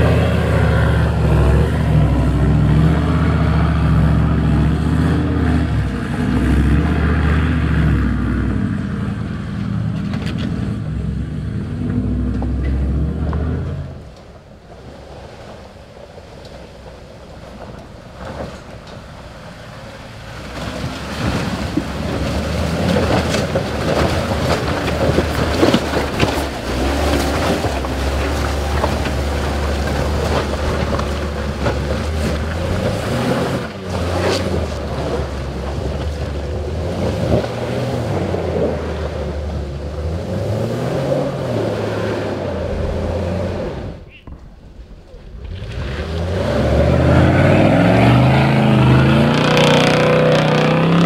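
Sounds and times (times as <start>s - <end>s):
car engine working hard: 0.0s - 51.0s.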